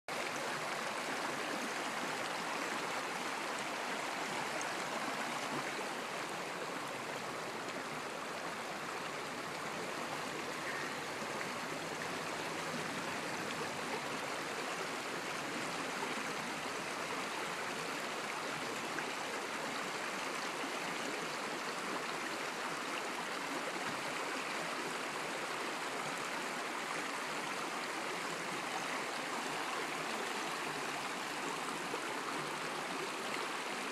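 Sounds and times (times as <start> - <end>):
stream rushing over stones: 0.1 - 33.9.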